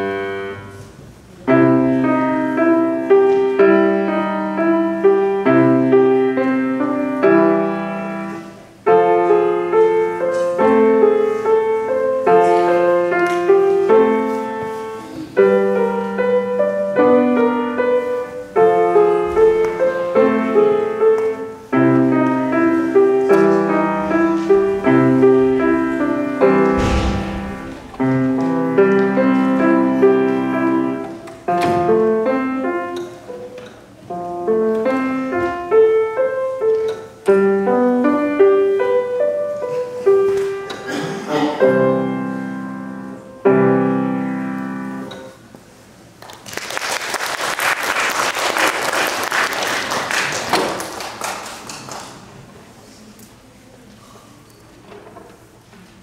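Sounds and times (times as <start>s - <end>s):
grand piano piece: 0.0s - 56.0s.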